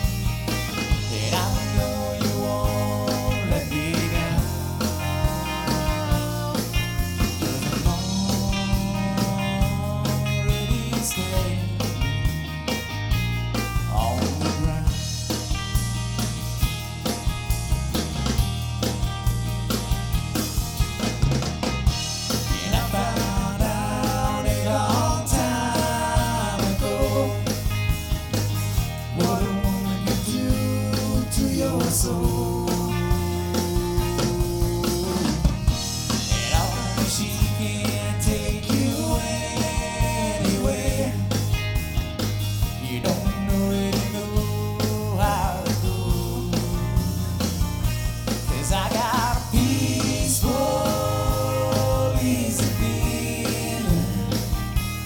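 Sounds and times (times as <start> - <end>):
drum kit beat: 0.0 - 55.0
live rock band playing: 0.0 - 55.0.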